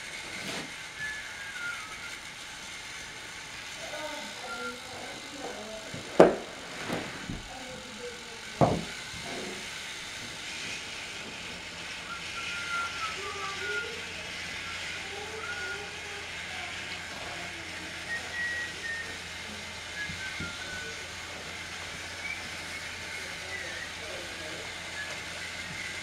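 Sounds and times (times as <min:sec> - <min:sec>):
toy train whirring rattle: 0:00.0 - 0:26.0.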